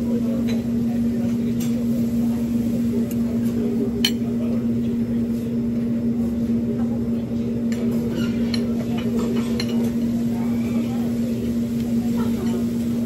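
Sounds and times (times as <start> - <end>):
low hum of restaurant noise: 0.0 - 13.0.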